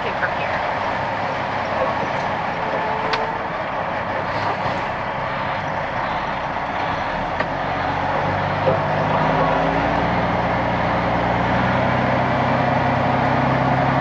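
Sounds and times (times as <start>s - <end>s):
truck engine: 0.0s - 14.0s
tyres on gravel road: 0.0s - 14.0s.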